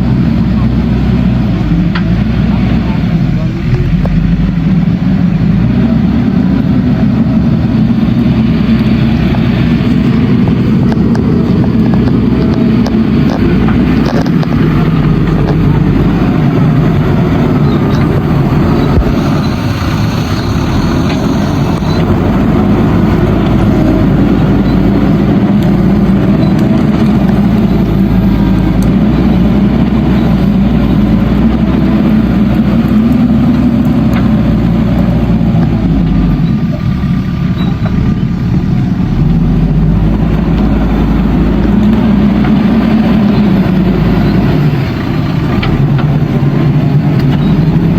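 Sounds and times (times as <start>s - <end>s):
diesel engine running hard: 0.0s - 47.9s.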